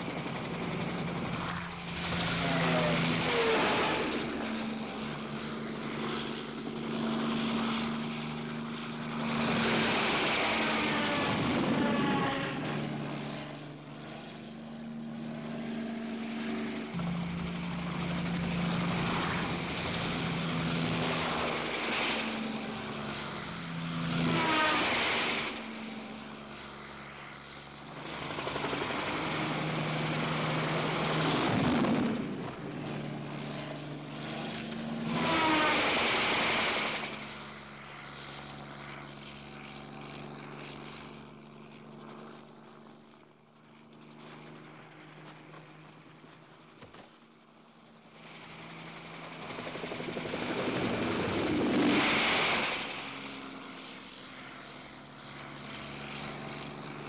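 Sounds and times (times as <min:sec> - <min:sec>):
helicopter flying overhead: 0:00.0 - 0:57.0.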